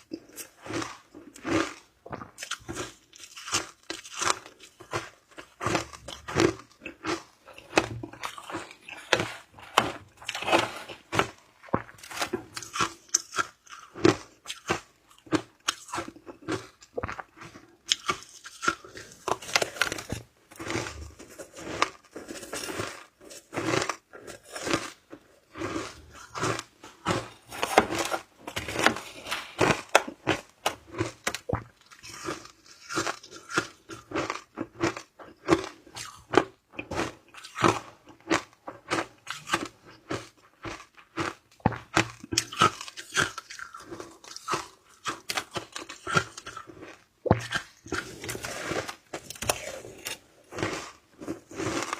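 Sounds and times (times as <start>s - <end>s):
person crunching ice: 0.0s - 51.9s.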